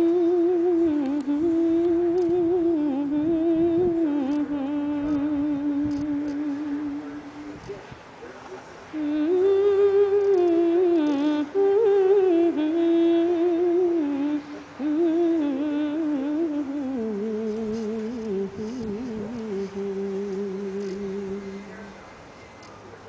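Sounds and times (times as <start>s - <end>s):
person humming a melody: 0.0s - 7.7s, 9.0s - 21.8s.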